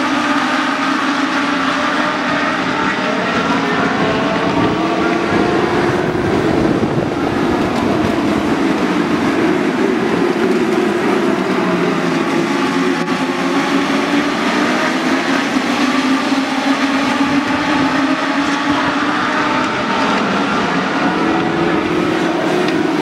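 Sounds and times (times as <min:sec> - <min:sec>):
race cars racing past: 0:00.0 - 0:23.0.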